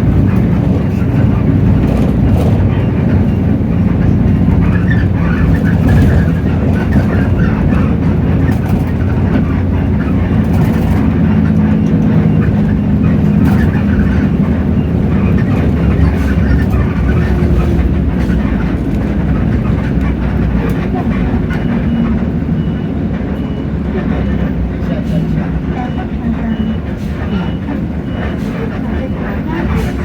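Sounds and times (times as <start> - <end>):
bus diesel engine running: 0.0 - 30.0.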